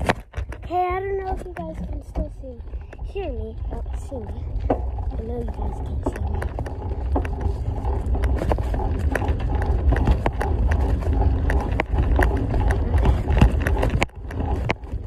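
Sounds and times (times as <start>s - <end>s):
low handling rumble: 0.0s - 15.0s.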